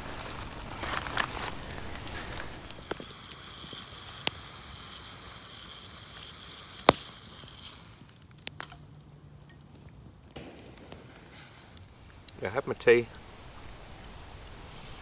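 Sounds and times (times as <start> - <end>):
campfire hissing and crackling: 0.0 - 15.0
campfire popping: 0.4 - 14.6.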